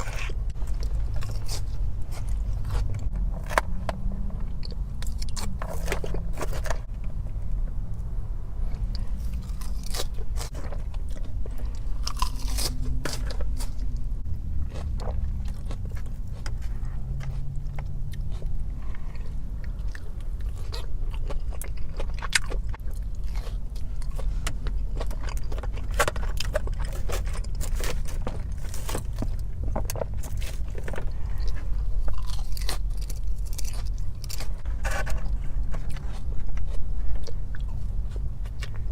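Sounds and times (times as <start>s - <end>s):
person chewing and crunching food: 0.0s - 38.9s
steady low hum: 0.0s - 38.9s.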